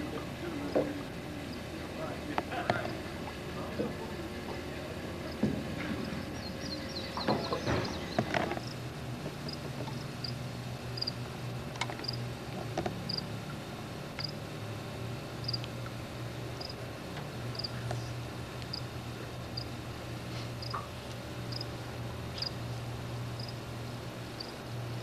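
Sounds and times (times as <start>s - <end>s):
steady low hum: 0.0s - 25.0s
crickets chirping: 0.3s - 25.0s.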